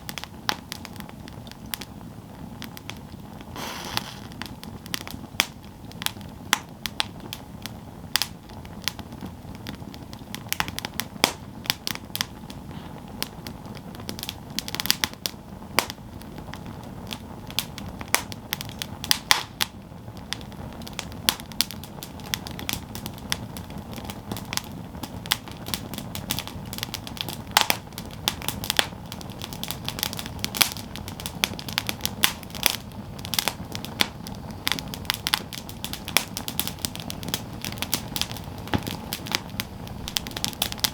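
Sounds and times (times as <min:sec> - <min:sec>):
low hiss of flames: 0:00.0 - 0:40.9
wood crackling and popping: 0:00.0 - 0:40.9.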